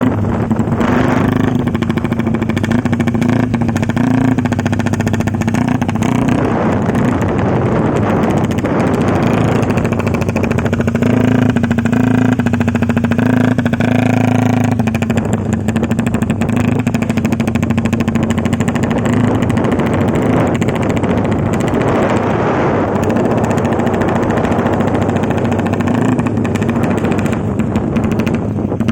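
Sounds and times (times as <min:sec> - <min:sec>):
motorcycle engine on rev limiter: 0:00.0 - 0:28.9.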